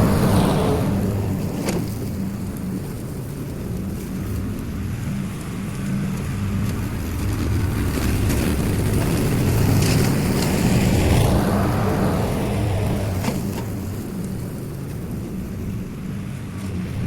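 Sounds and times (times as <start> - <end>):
lawn mower cutting grass: 0.0 - 17.0.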